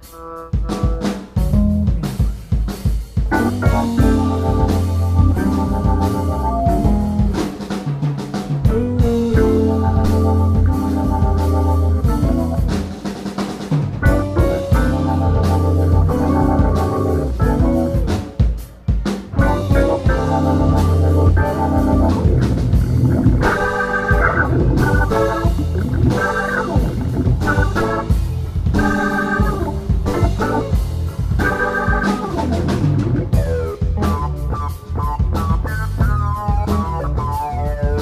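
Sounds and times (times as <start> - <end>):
electric bass: 0.0 - 13.2, 13.8 - 18.4, 19.4 - 38.0
organ chords: 0.0 - 38.0.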